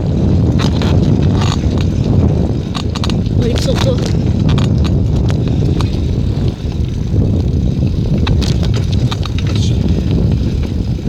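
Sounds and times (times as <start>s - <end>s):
bicycle clicks and rattles: 0.0s - 11.0s
wind buffeting microphone: 0.0s - 11.0s.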